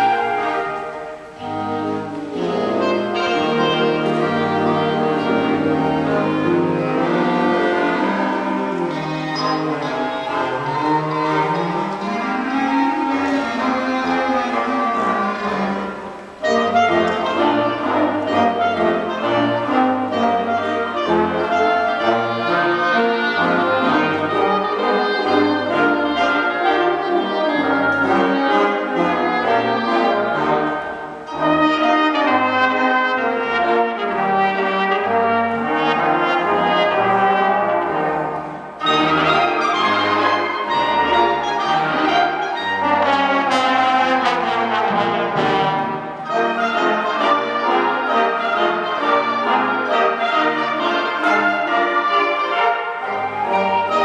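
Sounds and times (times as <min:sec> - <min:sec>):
concert band playing: 0:00.0 - 0:54.0.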